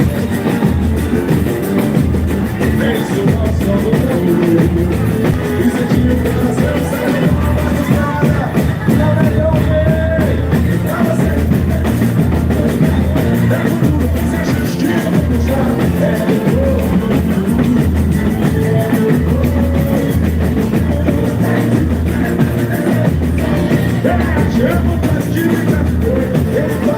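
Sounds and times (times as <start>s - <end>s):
heavy drum percussion: 0.0s - 26.9s
person singing: 0.0s - 26.9s.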